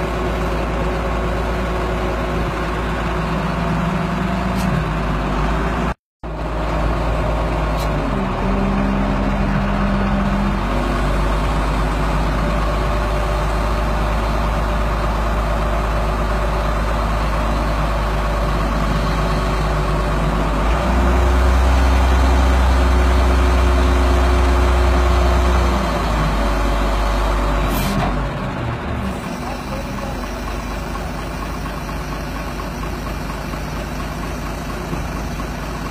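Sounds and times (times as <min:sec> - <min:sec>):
truck engine running and revving: 0:00.0 - 0:35.9.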